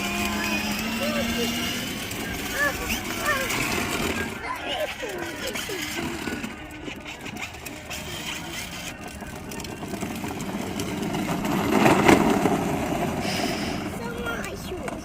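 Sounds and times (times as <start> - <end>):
plastic wheels rolling on ground: 0.0 - 15.0
toy car motors whirring: 0.0 - 15.0.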